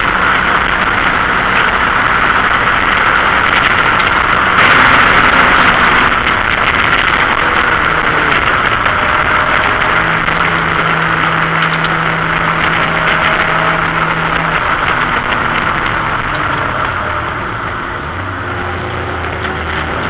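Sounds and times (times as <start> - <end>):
car engine running at speed: 0.0 - 20.0
road noise: 0.0 - 20.0
wind noise: 0.0 - 20.0.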